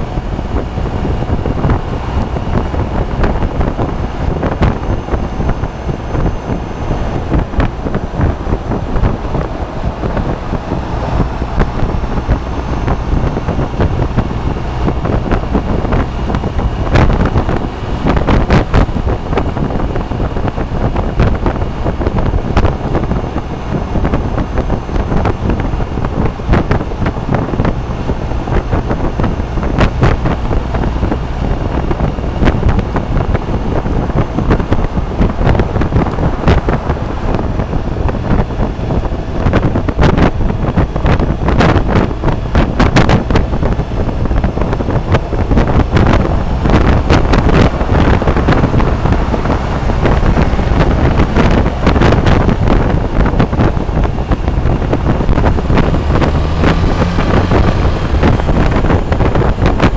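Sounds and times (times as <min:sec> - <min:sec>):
scooter engine and road rumble: 0:00.0 - 0:59.9
wind buffeting microphone: 0:00.0 - 0:59.9.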